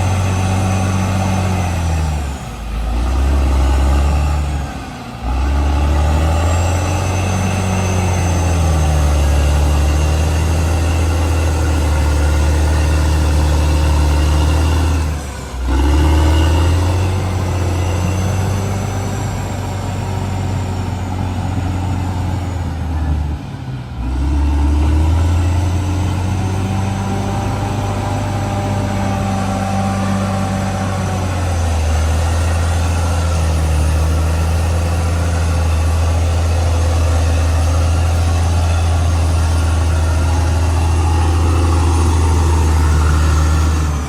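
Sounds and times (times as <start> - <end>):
bulldozer diesel engine under load: 0.0 - 44.0.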